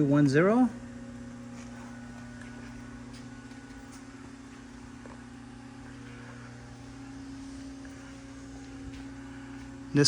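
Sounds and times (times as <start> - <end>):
low electrical machine hum: 0.0 - 10.0.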